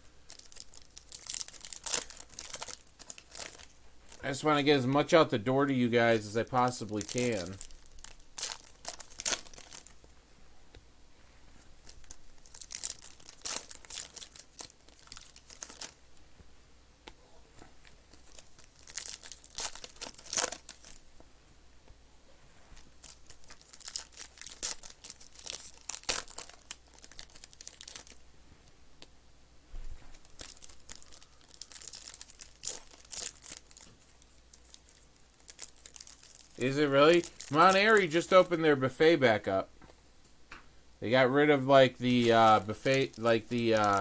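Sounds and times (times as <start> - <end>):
plastic wrapping crinkling: 0.0 - 10.2, 11.6 - 16.1, 17.7 - 21.0, 22.5 - 28.2, 29.8 - 39.6, 41.0 - 44.0.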